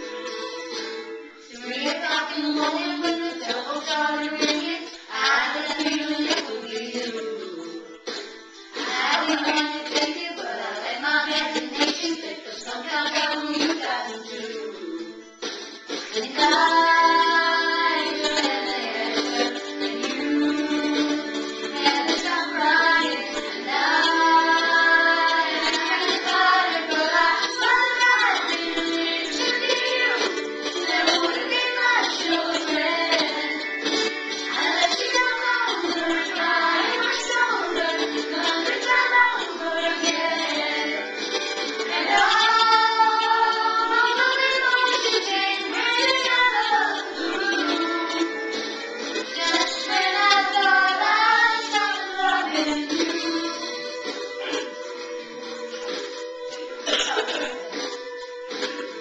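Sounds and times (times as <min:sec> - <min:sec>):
girls singing together: 0:00.0 - 0:15.2, 0:16.0 - 0:59.0
recorded backing music: 0:00.0 - 0:59.0.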